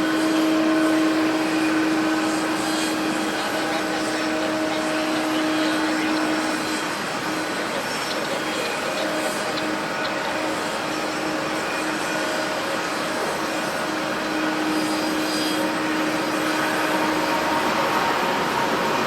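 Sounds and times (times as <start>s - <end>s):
jet engines roaring: 0.0s - 19.0s
steady hum: 0.0s - 19.0s.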